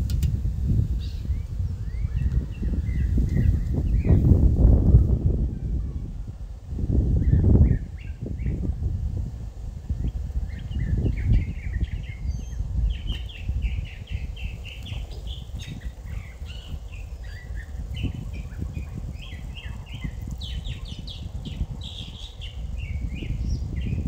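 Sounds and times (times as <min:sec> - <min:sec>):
low rumbling noise: 0:00.0 - 0:24.0
songbirds chirping: 0:00.0 - 0:24.0.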